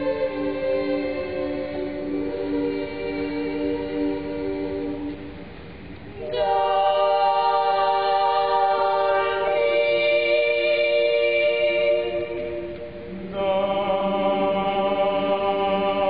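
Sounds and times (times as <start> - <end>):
boys' choir singing a cappella: 0.0 - 5.5, 6.2 - 16.0.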